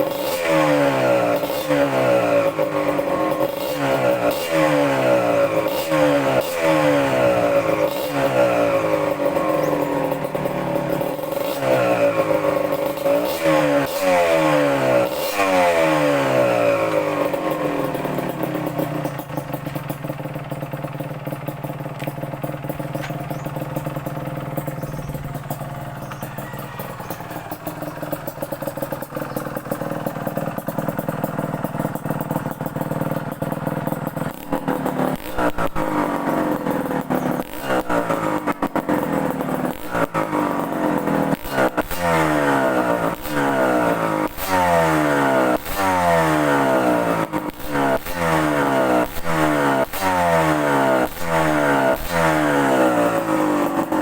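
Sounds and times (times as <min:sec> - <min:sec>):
motorcycle engine idling: 0:00.0 - 0:54.0
motorcycle engine revving: 0:00.0 - 0:54.0.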